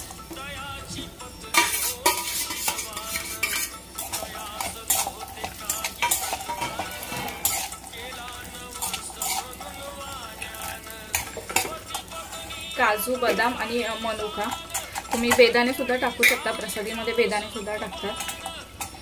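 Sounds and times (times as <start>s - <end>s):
spoon scraping metal pan: 1.4s - 19.0s.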